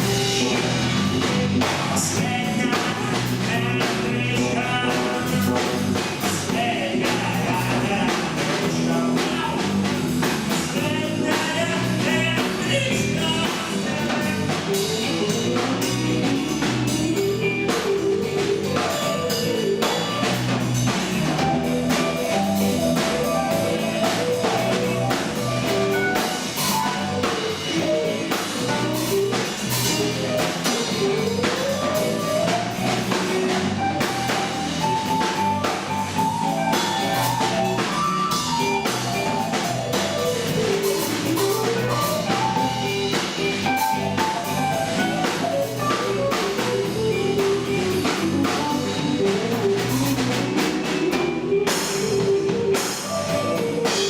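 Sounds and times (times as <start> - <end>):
drum kit beat: 0.0 - 54.0
gliding lead guitar: 8.6 - 54.0.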